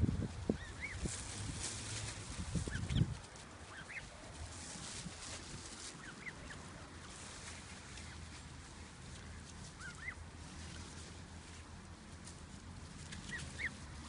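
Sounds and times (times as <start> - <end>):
goslings peeping: 0.0 - 14.0
low steady background noise: 0.0 - 14.0.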